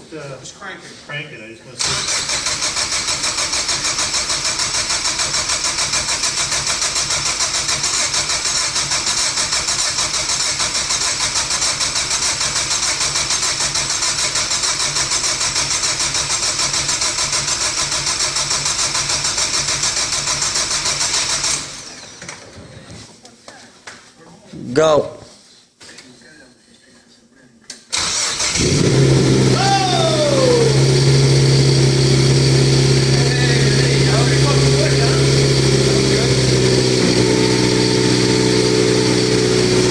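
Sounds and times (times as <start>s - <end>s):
starter motor cranking engine: 1.8s - 22.5s, 27.9s - 39.9s.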